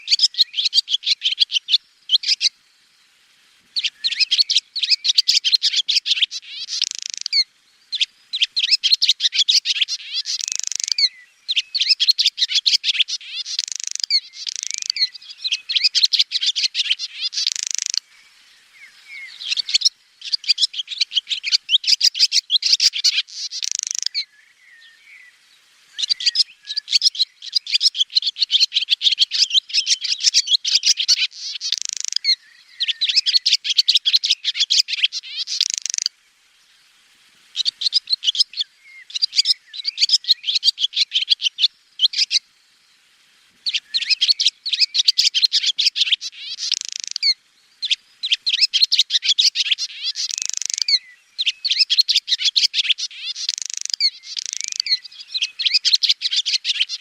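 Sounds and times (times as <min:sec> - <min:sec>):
swallow twittering: 0:00.0 - 0:02.6, 0:03.8 - 0:36.1, 0:37.5 - 0:42.4, 0:43.6 - 0:57.0.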